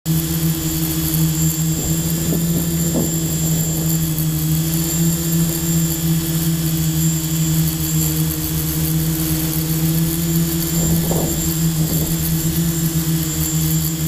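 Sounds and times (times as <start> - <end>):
drone motors humming: 0.1 - 14.0.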